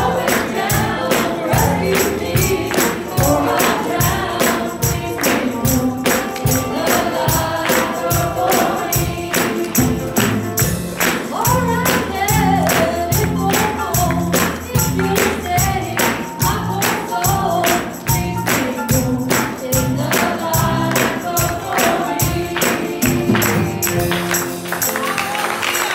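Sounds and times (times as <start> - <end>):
woman singing gospel song: 0.0 - 10.2, 11.2 - 24.2
steady percussion beat: 0.0 - 25.9.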